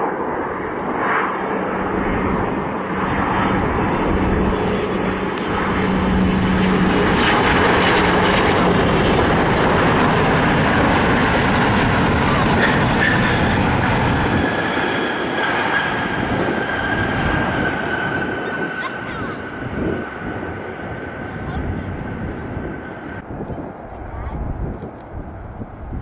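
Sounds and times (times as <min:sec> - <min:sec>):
jet airliner landing: 0:00.0 - 0:26.0.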